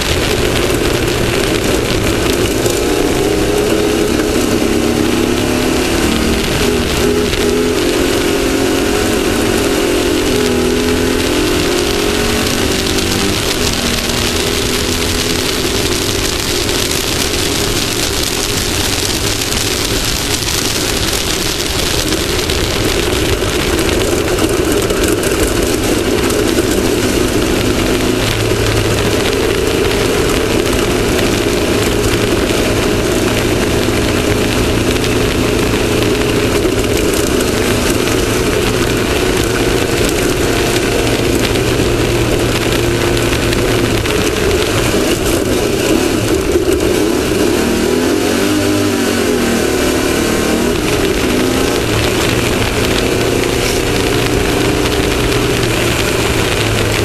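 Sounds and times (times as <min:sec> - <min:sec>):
constant rushing noise: 0:00.0 - 0:57.0
vehicle engine running under load: 0:00.0 - 0:57.0.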